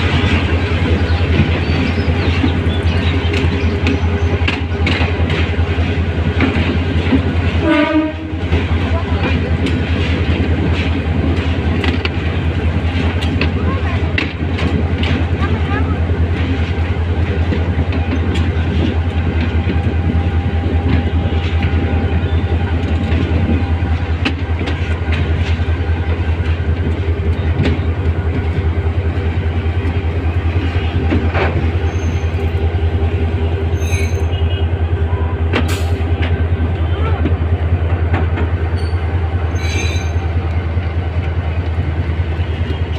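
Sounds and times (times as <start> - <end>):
locomotive engine drone: 0.0 - 42.9
wheels rumbling on rails: 0.0 - 42.9.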